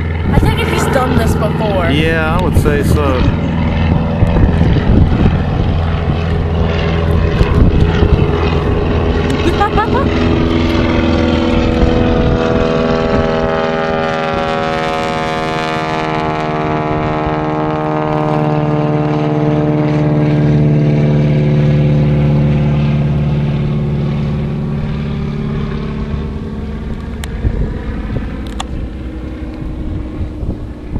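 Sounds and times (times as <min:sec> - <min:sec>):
propeller plane droning overhead: 0:00.0 - 0:30.9.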